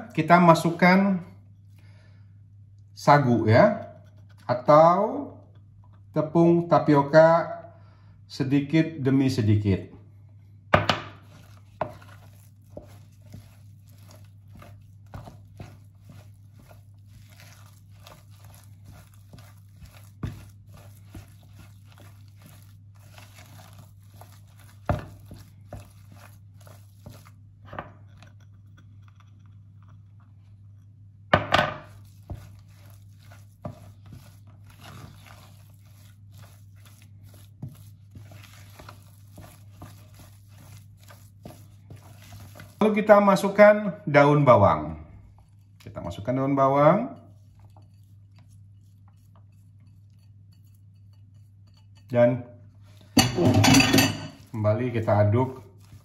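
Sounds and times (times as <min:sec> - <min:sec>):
spatula stirring sticky paste: 0:03.0 - 0:07.6, 0:10.4 - 0:56.0.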